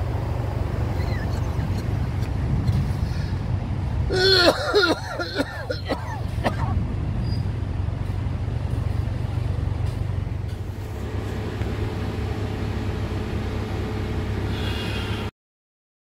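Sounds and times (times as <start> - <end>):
outdoor ambience hiss: 0.0 - 15.3
steady low rumble: 0.0 - 15.3.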